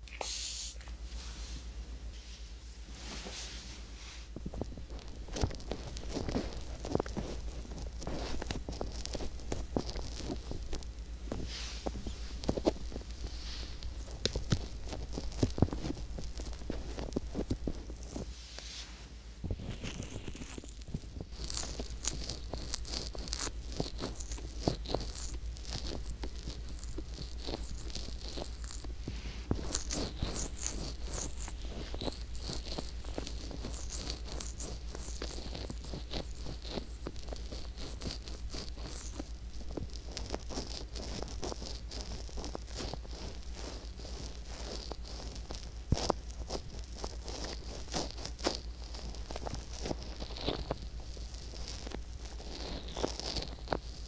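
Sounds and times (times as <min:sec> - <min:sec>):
fingertips rubbing microphone: 0:04.3 - 0:18.7, 0:19.4 - 0:54.0.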